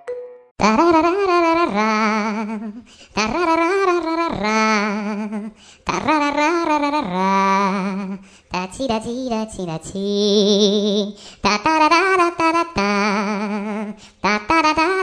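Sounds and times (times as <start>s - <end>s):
person singing wordless phrase: 0.6s - 15.0s.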